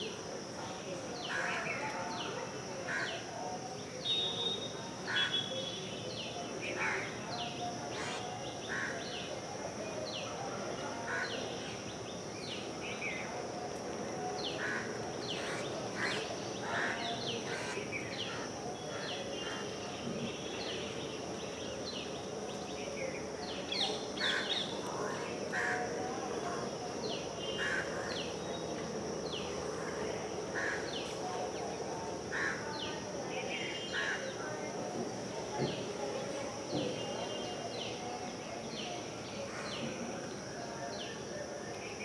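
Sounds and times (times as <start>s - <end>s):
high insect drone: 0.0s - 42.0s.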